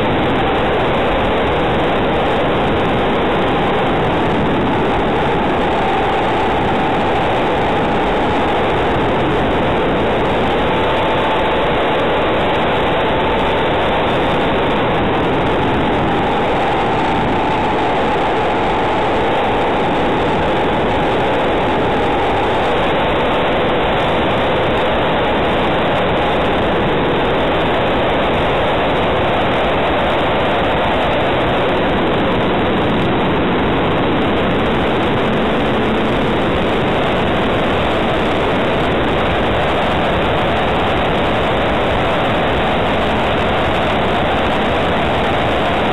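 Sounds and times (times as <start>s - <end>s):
propeller noise: 0.0s - 45.9s
rushing wind: 0.0s - 45.9s.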